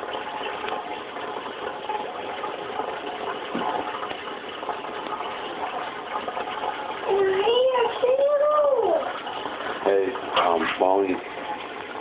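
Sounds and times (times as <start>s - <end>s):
aquarium filter splashing water: 0.0s - 12.0s.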